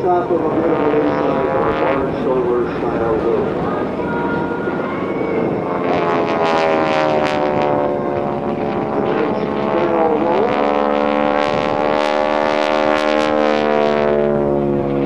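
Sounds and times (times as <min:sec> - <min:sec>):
radial aircraft engine and propeller: 0:00.0 - 0:15.0.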